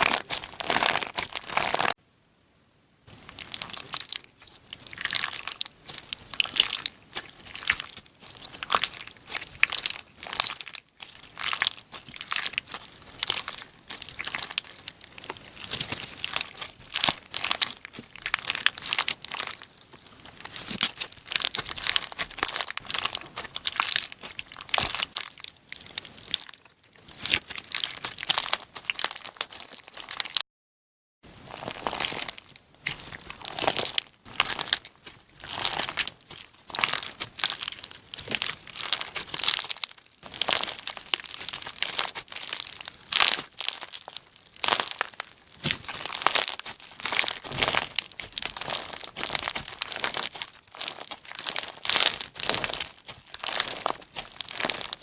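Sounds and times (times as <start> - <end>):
slime crackling and crunching: 0.0 - 2.0, 3.1 - 30.4, 31.4 - 55.0.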